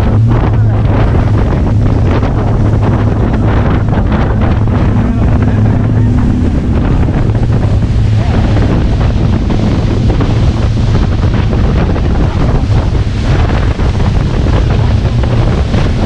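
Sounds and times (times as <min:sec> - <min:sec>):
motorboat engine humming: 0:00.0 - 0:16.0
rushing water: 0:00.0 - 0:16.0
wind buffeting microphone: 0:00.0 - 0:16.0.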